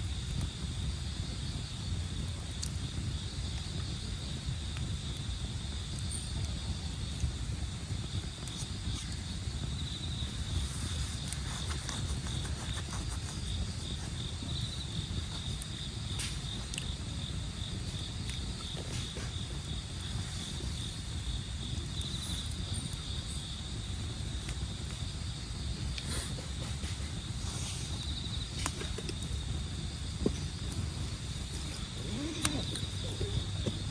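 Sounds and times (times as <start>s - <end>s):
campfire crackling and popping: 0.0s - 33.9s
constant low rumble: 0.0s - 33.9s
crickets trilling: 0.0s - 33.9s.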